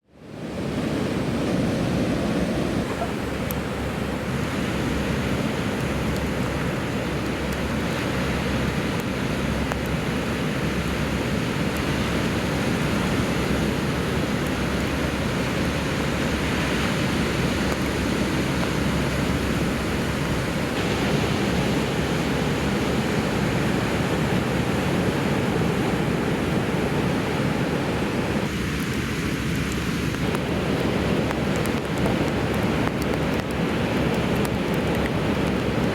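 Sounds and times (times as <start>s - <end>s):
wind rumbling on microphone: 0.0s - 35.9s
ocean surf breaking: 0.2s - 35.9s.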